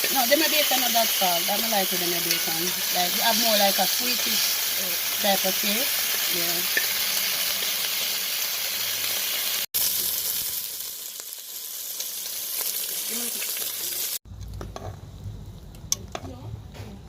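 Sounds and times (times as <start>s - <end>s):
bacon sizzling in a pan: 0.0s - 14.2s.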